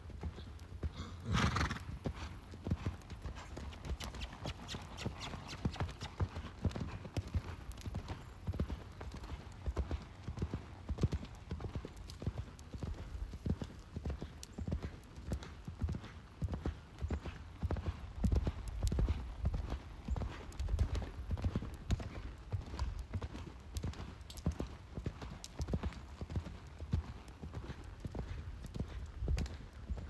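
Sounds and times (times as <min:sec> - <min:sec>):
horse hoofbeats on sand: 0:00.1 - 0:30.0.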